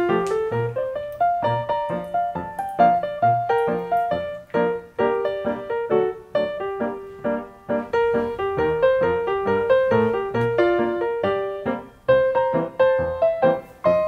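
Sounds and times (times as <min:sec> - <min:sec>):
light piano melody: 0:00.0 - 0:14.0.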